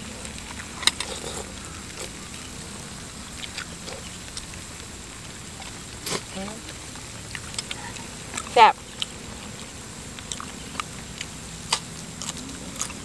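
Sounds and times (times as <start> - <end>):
noodles slurped and chewed: 0.0 - 13.0.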